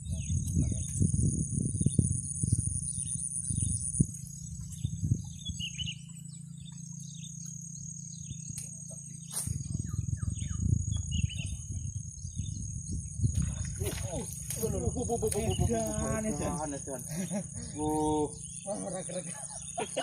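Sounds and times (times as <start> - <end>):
bird chirps: 0.0 - 20.0
high-pitched insect drone: 0.0 - 20.0
low uneven rumble: 0.0 - 20.0.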